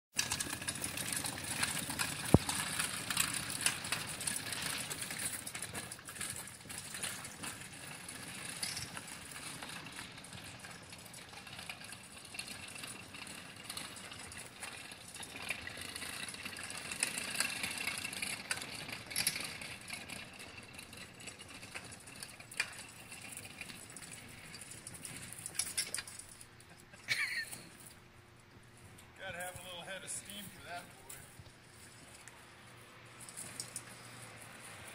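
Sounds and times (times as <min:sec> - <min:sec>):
bike frame rattling and clicking: 0:00.1 - 0:28.0, 0:33.1 - 0:34.9
bike tires rolling over pavement: 0:00.1 - 0:34.9.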